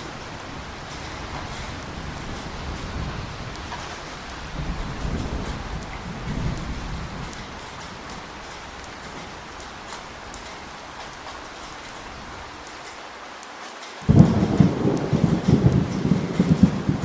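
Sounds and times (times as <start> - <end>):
low rumble of thunder: 0.0 - 12.8, 14.0 - 17.0
rain falling steadily: 0.0 - 17.0.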